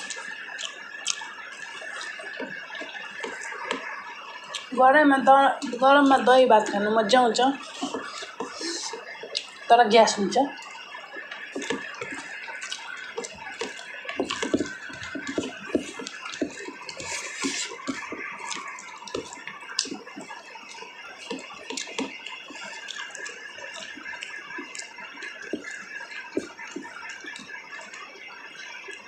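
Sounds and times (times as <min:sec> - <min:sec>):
wet chewing and smacking: 0:00.0 - 0:04.8, 0:07.6 - 0:09.7, 0:10.5 - 0:29.0.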